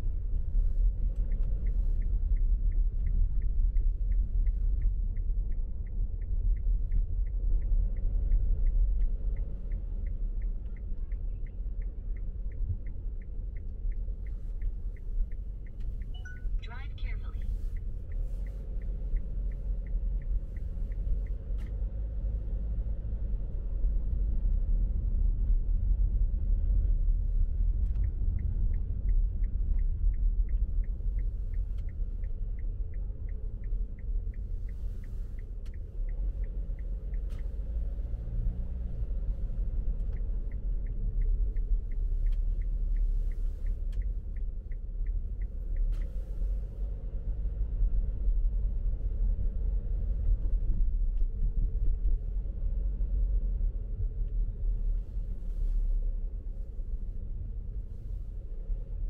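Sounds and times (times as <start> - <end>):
light regular ticking: 0.0 - 23.2, 27.0 - 59.0
car road and engine rumble: 0.0 - 59.0.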